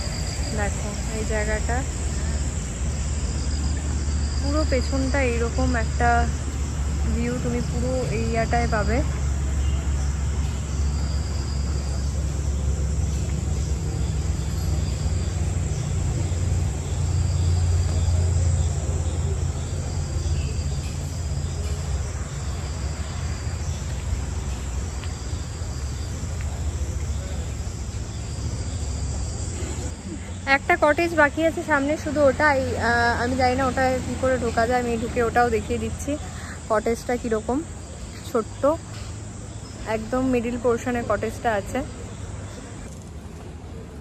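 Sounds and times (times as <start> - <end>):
insect trill pulsing: 0.0 - 43.5
steady high insect buzz: 0.0 - 44.0.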